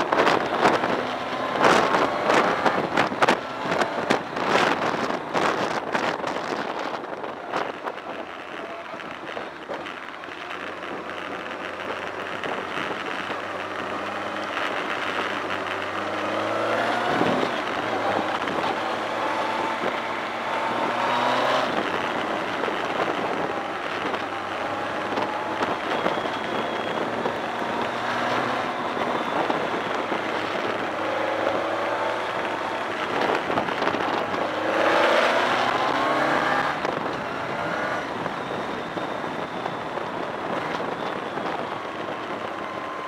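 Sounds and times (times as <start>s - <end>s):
motorcycle engine accelerating: 0.0s - 43.0s
wind and rain noise: 0.0s - 43.0s.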